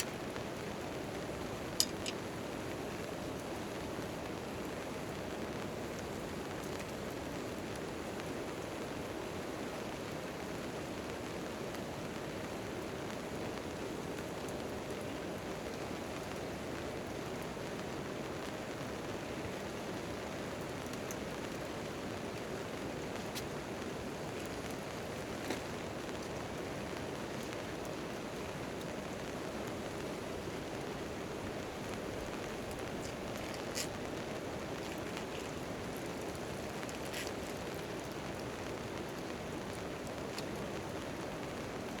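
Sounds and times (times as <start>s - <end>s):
rain on a tent tarp: 0.0s - 42.0s.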